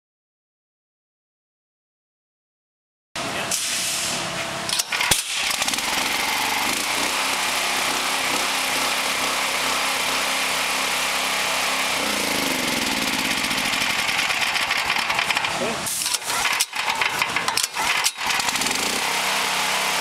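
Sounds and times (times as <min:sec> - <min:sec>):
engine running steadily: 0:03.2 - 0:20.0.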